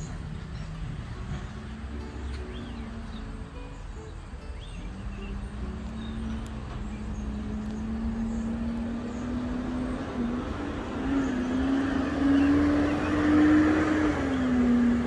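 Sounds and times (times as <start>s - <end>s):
motor vehicle engine approaching: 0.0s - 15.0s.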